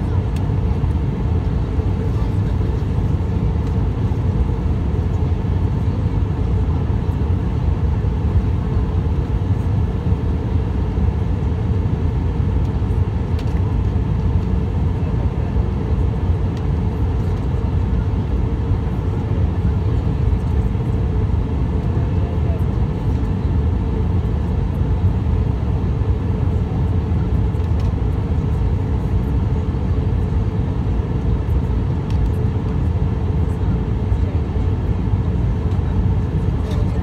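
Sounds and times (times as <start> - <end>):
airliner cabin noise: 0.0 - 37.0.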